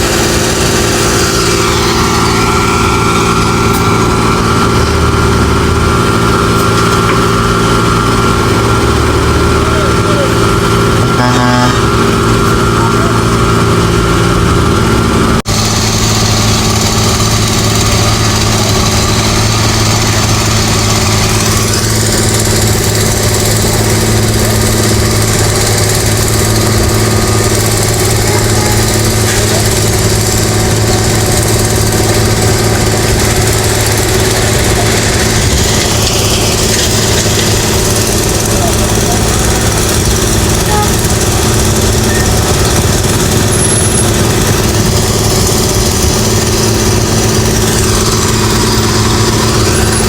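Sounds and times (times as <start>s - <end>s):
heavy machinery engine running: 0.0s - 50.0s.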